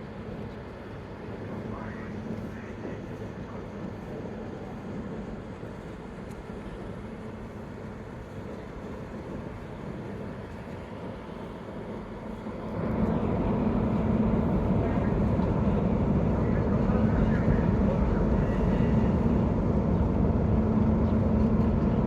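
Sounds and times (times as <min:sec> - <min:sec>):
water wash of a ship: 0:00.0 - 0:22.0
ferry engines humming: 0:04.2 - 0:22.0.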